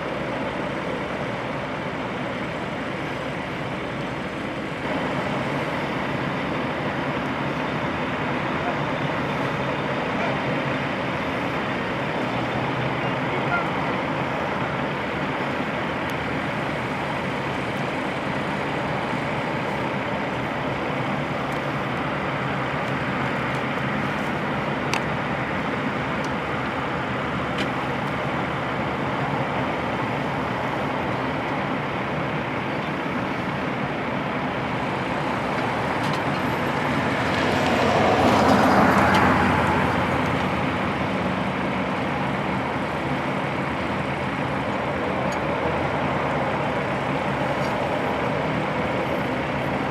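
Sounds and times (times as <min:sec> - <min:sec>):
heavy truck diesel engines: 0:00.0 - 0:49.9.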